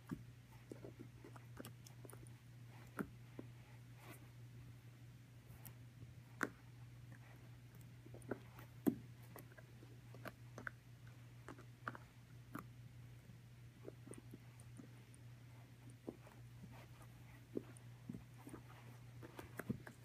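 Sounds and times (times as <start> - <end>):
puppy gnawing on a chew: 0.0 - 4.2, 5.5 - 12.8, 13.7 - 20.0
low steady hum: 0.0 - 20.0.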